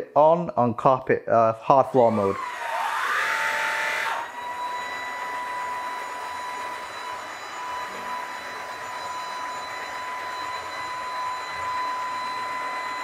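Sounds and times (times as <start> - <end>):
vacuum motor whining: 1.7 - 13.0.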